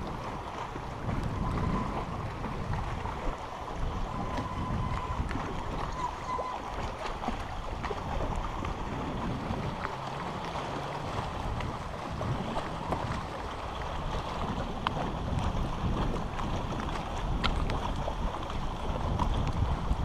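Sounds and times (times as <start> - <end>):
lapping lake water: 0.0 - 20.0
wind buffeting microphone: 0.0 - 20.0.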